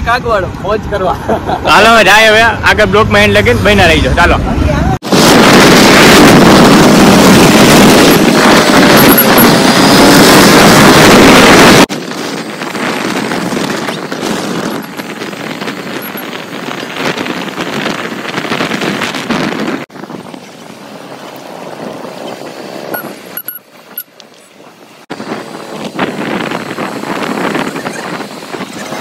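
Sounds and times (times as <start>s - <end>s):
motor scooter engine and road noise: 0.0s - 29.0s
wind rushing over microphone: 0.0s - 29.0s.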